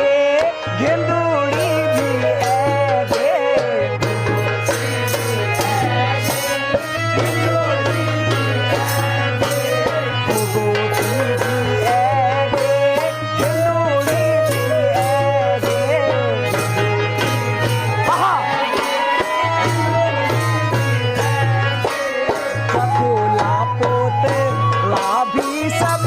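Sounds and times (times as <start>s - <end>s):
steady drum beat: 0.8s - 26.0s
wavering melody line: 1.7s - 26.0s.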